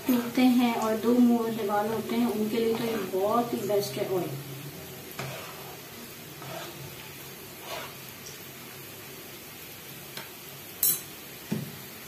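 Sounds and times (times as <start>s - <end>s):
onion frying sizzle: 0.0s - 12.0s.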